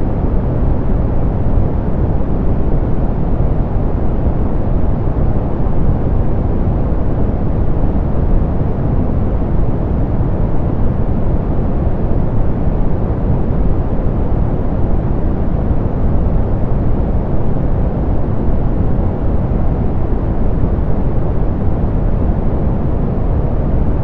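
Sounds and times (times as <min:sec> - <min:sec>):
soft pink noise: 0:00.0 - 0:24.0.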